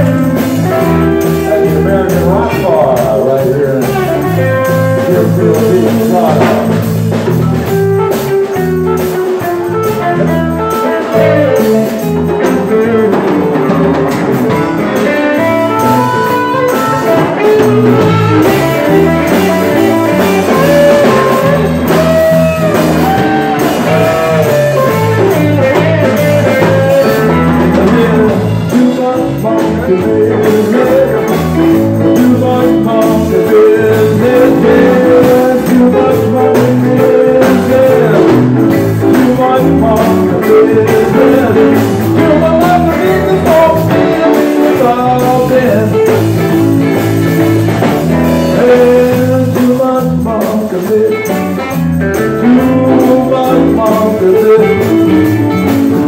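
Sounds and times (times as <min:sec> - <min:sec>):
guitar strummed and picked: 0:00.0 - 0:56.0
live band playing rock and roll: 0:00.0 - 0:56.0.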